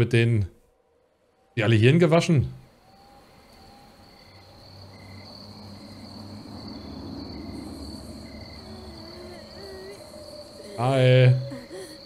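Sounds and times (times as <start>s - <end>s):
low hum: 0.0s - 11.8s
crickets chirping: 0.7s - 12.0s.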